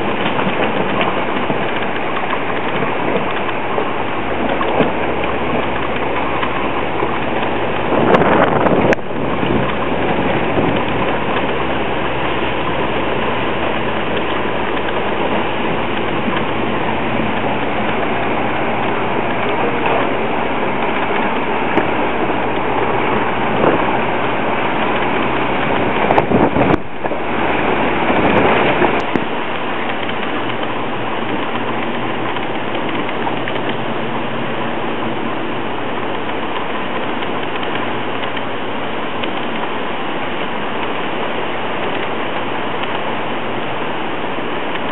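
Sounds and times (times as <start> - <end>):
heavy rain hissing: 0.0 - 44.9
low rumble: 0.0 - 44.9.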